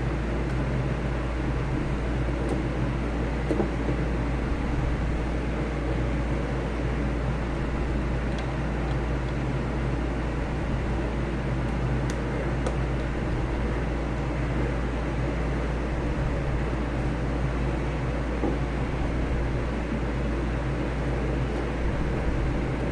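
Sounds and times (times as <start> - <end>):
low hum with hiss: 0.0 - 22.9.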